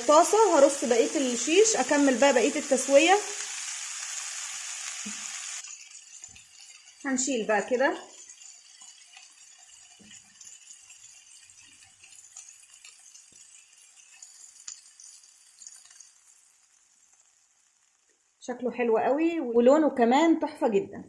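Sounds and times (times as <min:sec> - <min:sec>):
chicken sizzling in grill pan: 0:00.0 - 0:19.3.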